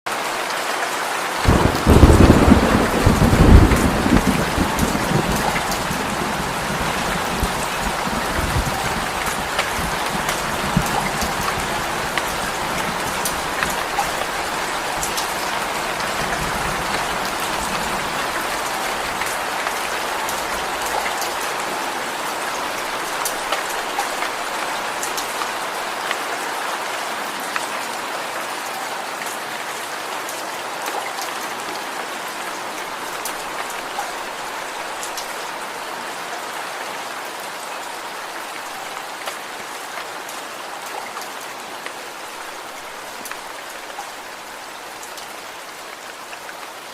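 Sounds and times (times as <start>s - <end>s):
steady rain falling: 0.1s - 46.9s
raindrops ticking on a surface: 0.2s - 46.9s.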